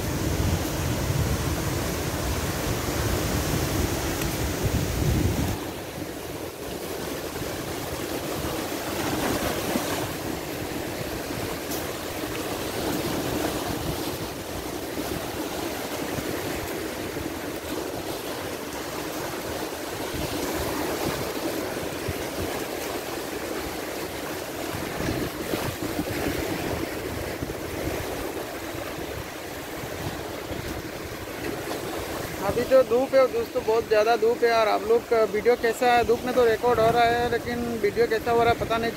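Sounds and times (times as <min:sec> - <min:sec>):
wind buffeting microphone: 0:00.0 - 0:32.9
waves breaking over rocks: 0:00.0 - 0:38.9.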